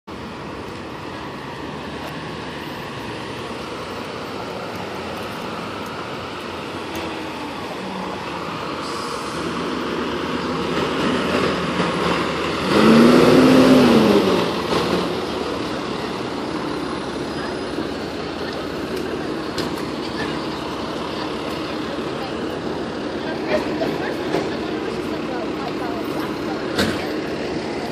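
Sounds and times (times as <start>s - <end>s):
street traffic: 0.0s - 27.9s
fire engine passing: 0.1s - 27.9s.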